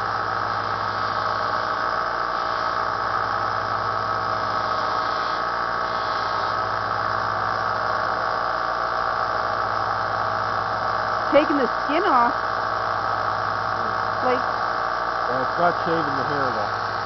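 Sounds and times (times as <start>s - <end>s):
bench belt sander running: 0.0s - 17.0s.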